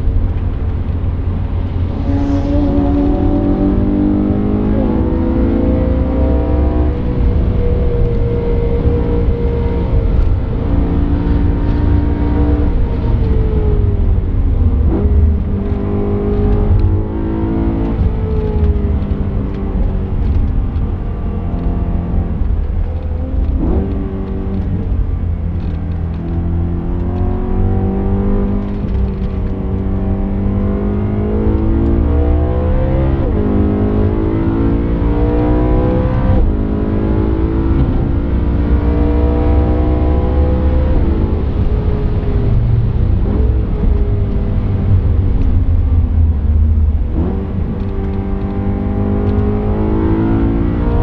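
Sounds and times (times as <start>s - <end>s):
car engine at full throttle: 0.0s - 51.0s
road and wind rumble: 0.0s - 51.0s.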